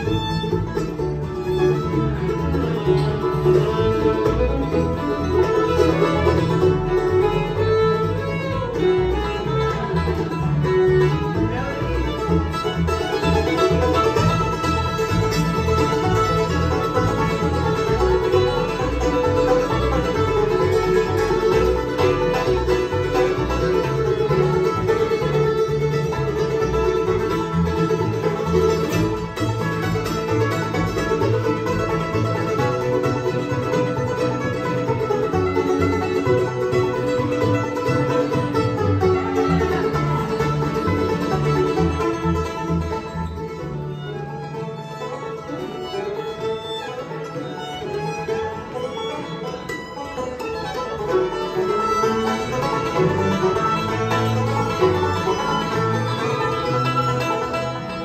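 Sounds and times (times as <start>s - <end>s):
banjo picking: 0.0s - 58.0s
bowed fiddle: 0.0s - 58.0s
guitar picking: 0.0s - 58.0s.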